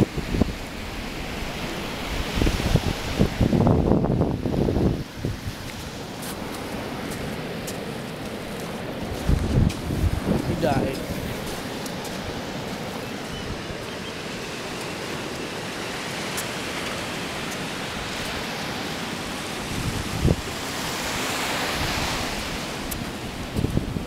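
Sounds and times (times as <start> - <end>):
wind buffeting microphone: 0.0 - 14.4, 17.7 - 24.0
waves washing up a beach: 0.0 - 24.0.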